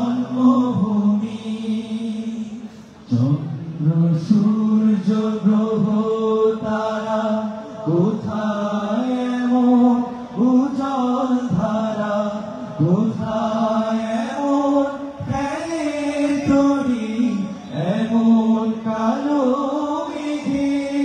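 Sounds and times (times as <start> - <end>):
men singing in chorus: 0.0 - 21.0.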